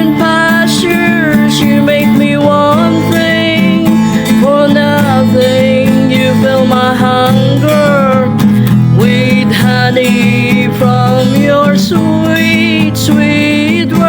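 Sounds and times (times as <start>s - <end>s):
sliding melody line: 0.0s - 14.0s
worship music with guitar: 0.0s - 14.0s.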